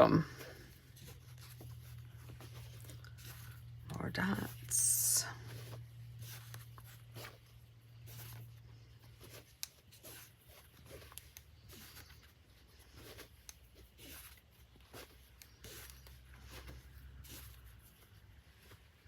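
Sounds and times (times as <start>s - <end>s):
fabric squares rustling: 0.0s - 19.0s.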